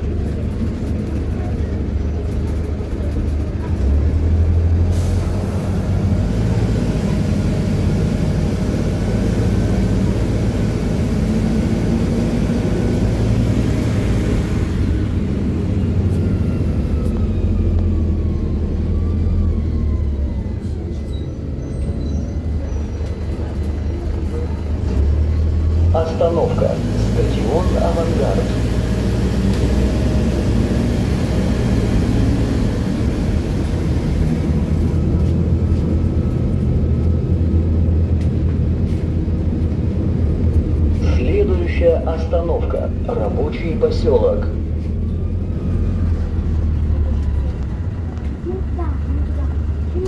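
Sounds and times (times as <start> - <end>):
bus engine drone: 0.0 - 50.0
road and body noise: 0.0 - 50.0.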